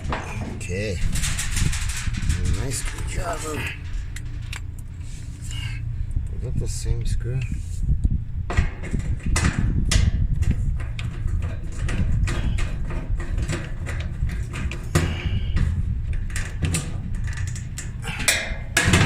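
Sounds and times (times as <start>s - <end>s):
metal panels clicking and scraping: 0.0s - 19.0s
steady low rumble: 0.0s - 19.0s.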